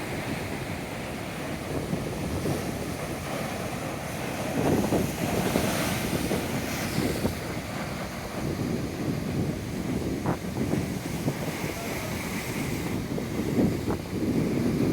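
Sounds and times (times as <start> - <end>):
ocean surf breaking: 0.0 - 14.9
wind buffeting the microphone: 0.0 - 14.9.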